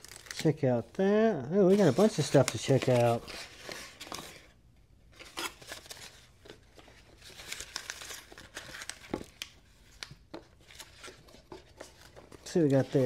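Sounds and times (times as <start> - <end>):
packing material crinkling: 0.0 - 1.0, 1.7 - 4.5, 5.2 - 13.0.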